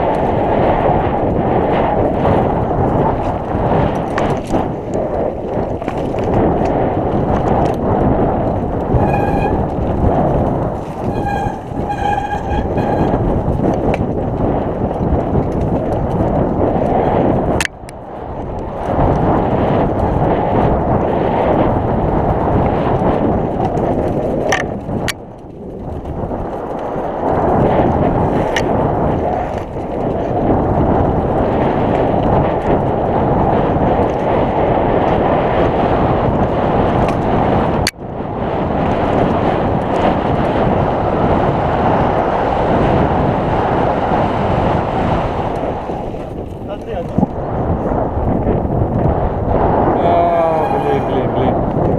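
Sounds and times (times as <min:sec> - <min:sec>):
bike clicks and rattles: 0:00.0 - 0:51.9
bike tyres rumbling on dirt: 0:00.0 - 0:51.9
wind on microphone: 0:00.0 - 0:51.9.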